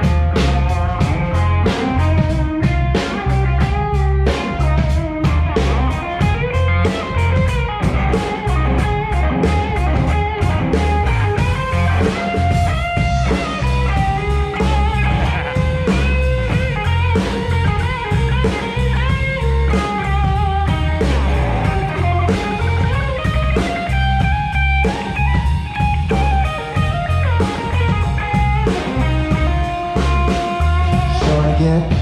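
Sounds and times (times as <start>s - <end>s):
electric guitar runs: 0.0s - 31.6s
drum hits: 0.0s - 32.0s
pulsing bass line: 0.0s - 32.0s.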